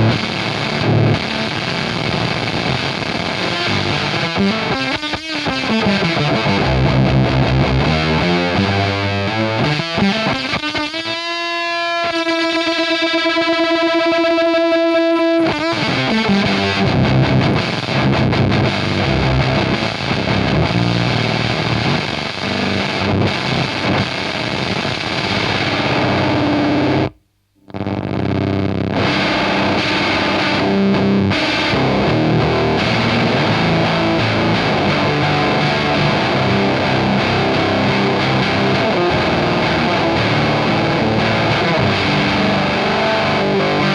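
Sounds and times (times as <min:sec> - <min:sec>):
fuzzed electric guitar: 0:00.0 - 0:43.9.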